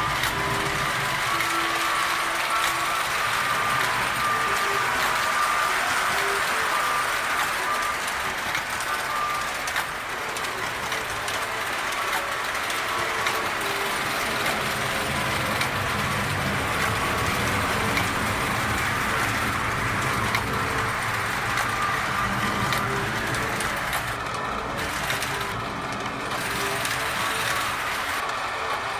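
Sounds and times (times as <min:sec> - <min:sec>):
toy train whirring on track: 0:00.0 - 0:28.9.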